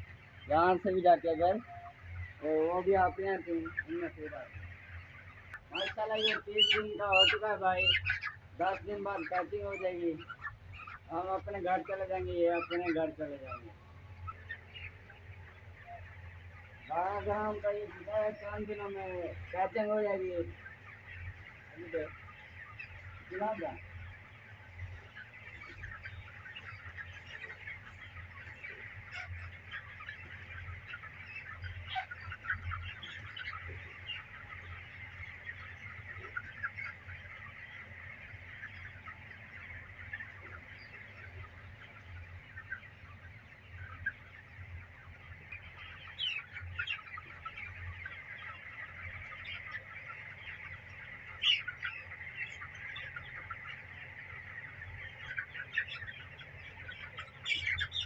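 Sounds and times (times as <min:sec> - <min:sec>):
chickens calling: 0:00.0 - 0:58.0.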